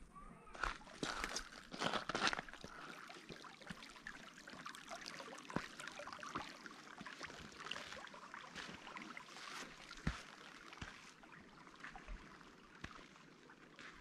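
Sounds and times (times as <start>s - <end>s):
stream trickling over rocks: 0.7s - 14.0s.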